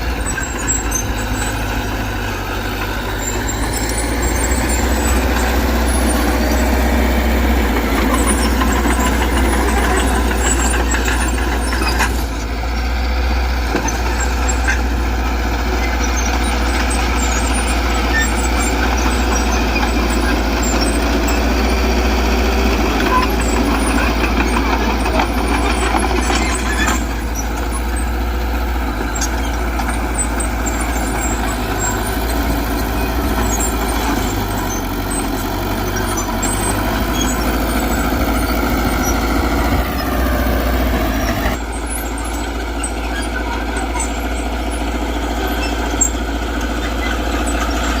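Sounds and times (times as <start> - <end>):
diesel earthmoving machinery: 0.0 - 48.0.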